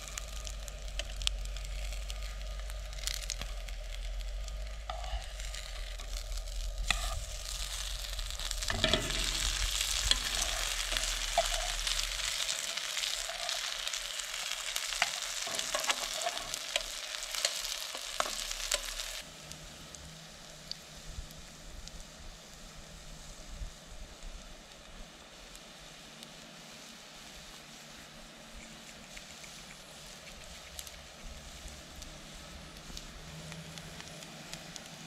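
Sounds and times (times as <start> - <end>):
low steady hum: 0.0 - 35.0
patties sizzling in a frying pan: 0.0 - 35.0.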